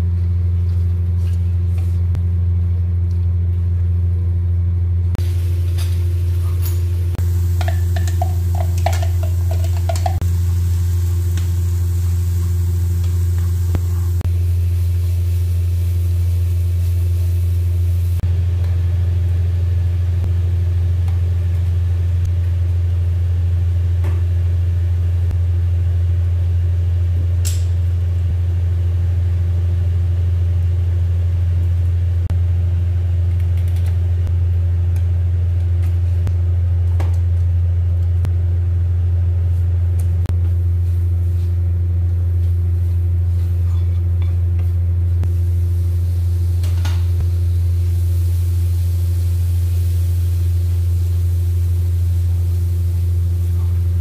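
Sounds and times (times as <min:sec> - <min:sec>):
loud low hum: 0:00.0 - 0:54.0.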